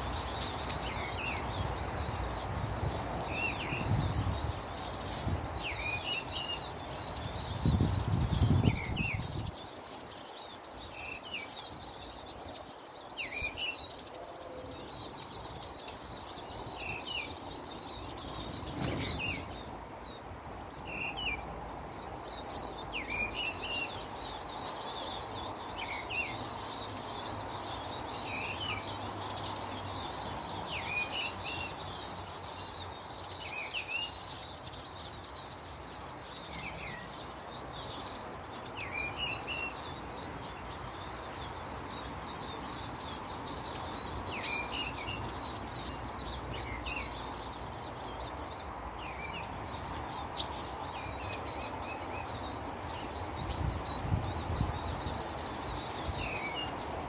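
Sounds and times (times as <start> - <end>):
birds twittering: 0.0 - 57.0.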